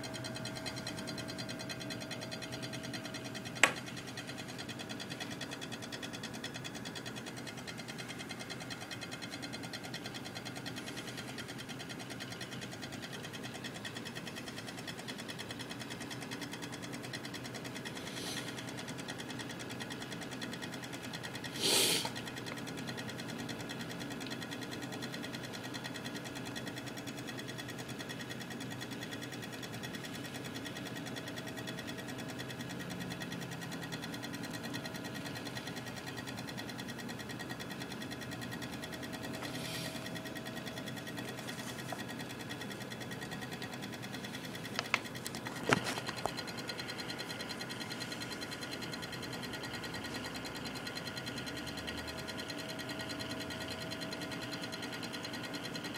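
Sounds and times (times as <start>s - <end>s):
power supply ticking: 0.0s - 55.9s.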